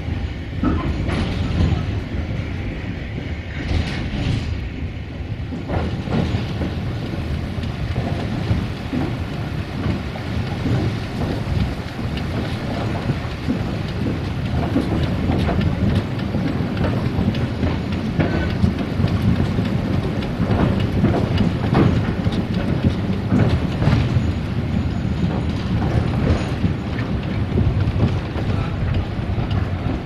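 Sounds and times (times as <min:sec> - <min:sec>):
train wheels rumbling on rails: 0:00.0 - 0:30.0
clicks and knocks of rails: 0:05.6 - 0:30.0.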